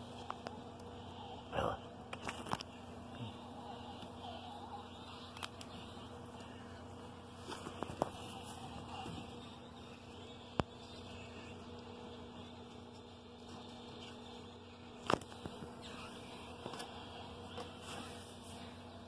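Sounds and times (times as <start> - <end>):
low buzzing hum: 0.0 - 19.0.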